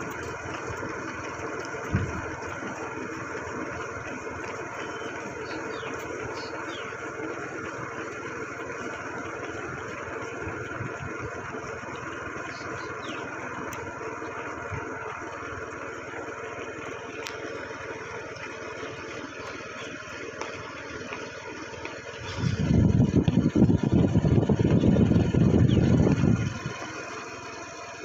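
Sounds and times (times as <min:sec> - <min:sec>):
road noise: 0:00.0 - 0:28.0
vehicle engine running: 0:00.0 - 0:28.0.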